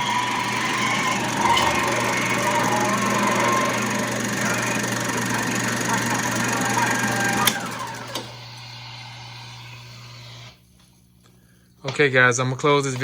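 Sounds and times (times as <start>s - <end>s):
film projector clattering: 0.0s - 10.6s.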